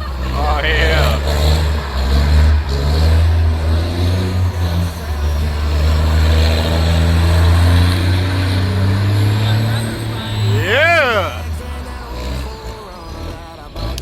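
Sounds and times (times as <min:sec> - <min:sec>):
heavy truck engine rumbling: 0:00.0 - 0:14.0.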